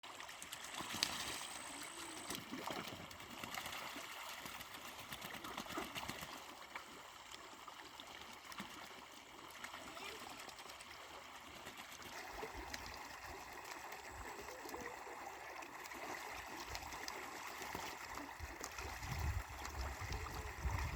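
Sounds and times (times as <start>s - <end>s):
small water splashes: 0.0s - 20.9s
water trickling and gurgling: 0.0s - 20.9s.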